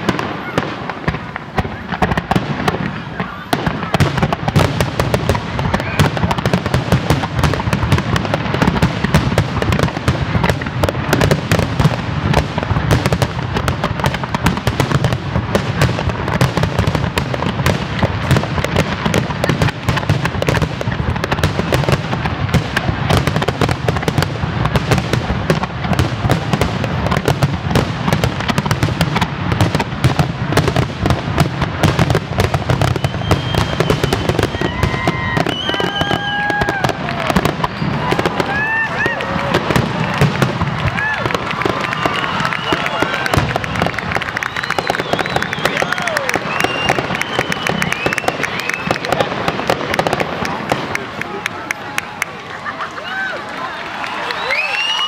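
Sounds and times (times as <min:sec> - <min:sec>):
fireworks bursts and crackles: 0:00.0 - 0:55.0.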